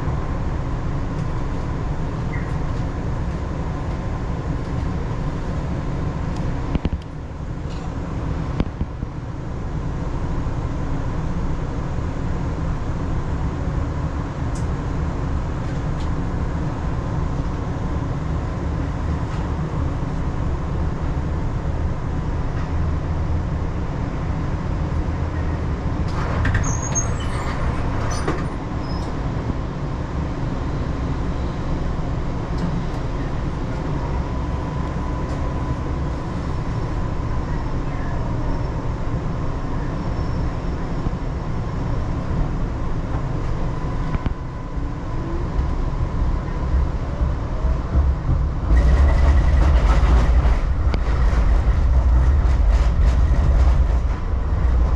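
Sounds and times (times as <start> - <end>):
tram rumble with whine: 0.0 - 54.9.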